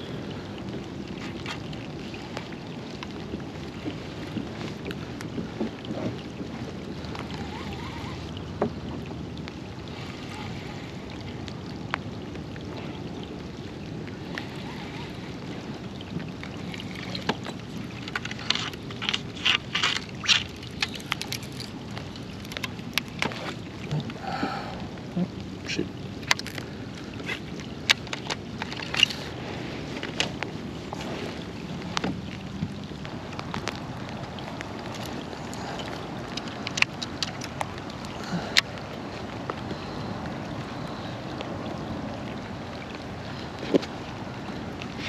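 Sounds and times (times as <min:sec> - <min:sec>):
wind on microphone: 0:00.0 - 0:45.0.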